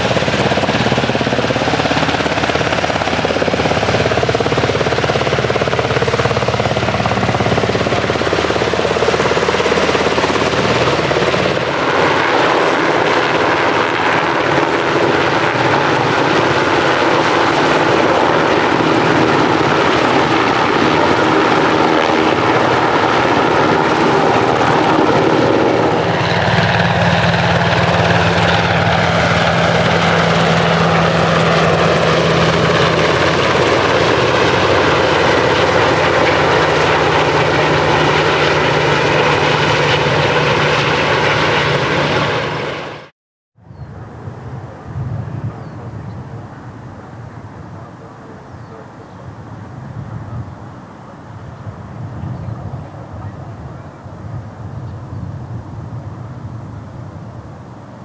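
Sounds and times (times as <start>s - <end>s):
helicopter engines and rotor: 0.0s - 58.0s.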